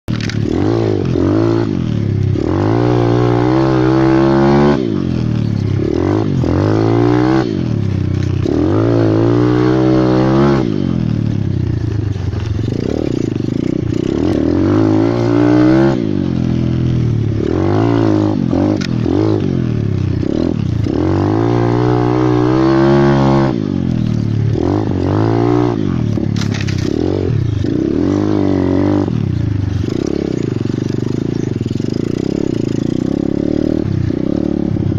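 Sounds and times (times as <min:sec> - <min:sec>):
pit bike engine revving: 0:00.1 - 0:34.9.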